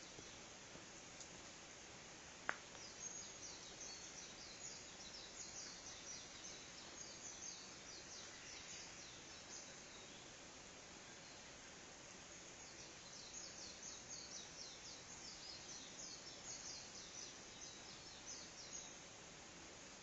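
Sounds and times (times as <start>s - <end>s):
faint birdsong: 0.0s - 20.0s
outdoor hiss: 0.0s - 20.0s.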